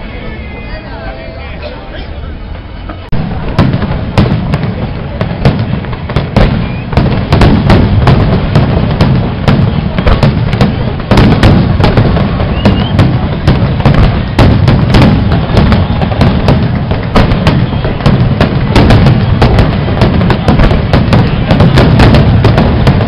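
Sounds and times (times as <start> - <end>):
firework bangs: 2.8 - 23.0.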